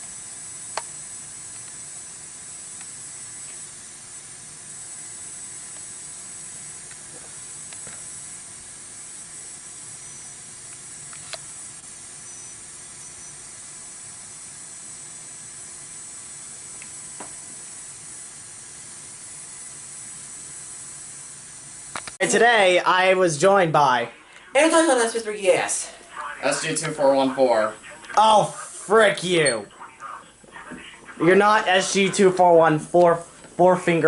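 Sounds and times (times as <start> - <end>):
radio static hiss: 0.0 - 34.0.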